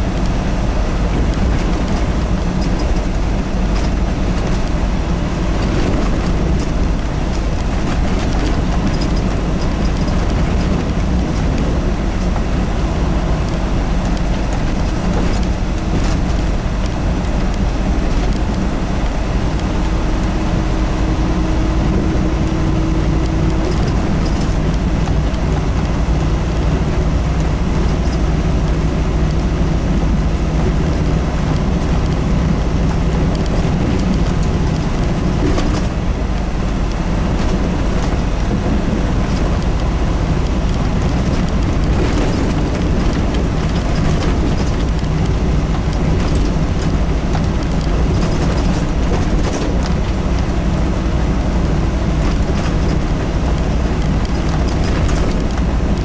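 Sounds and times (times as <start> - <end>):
road noise: 0.0 - 56.0
truck engine drone: 0.0 - 56.0
light rattles and clicks: 0.1 - 56.0.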